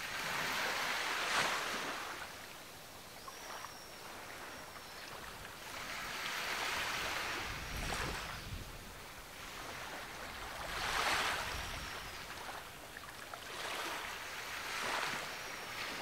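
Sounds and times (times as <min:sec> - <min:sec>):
ocean waves breaking: 0:00.0 - 0:02.5, 0:03.6 - 0:16.0.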